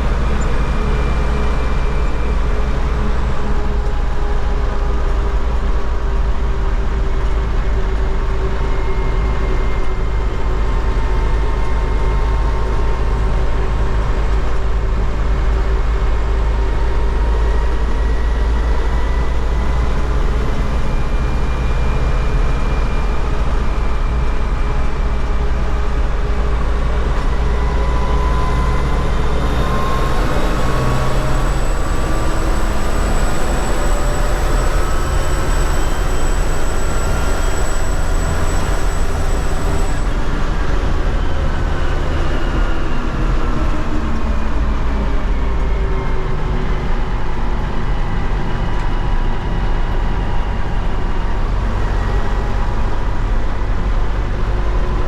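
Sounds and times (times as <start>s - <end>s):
drivetrain whine: 0.0s - 55.0s
tractor diesel engine running: 0.0s - 55.0s.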